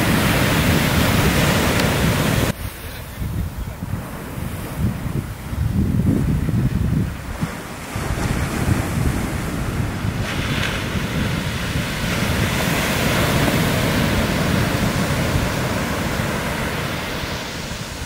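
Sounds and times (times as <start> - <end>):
wave crashing and rushing: 0.0 - 18.0
wind buffeting microphone: 0.0 - 18.0.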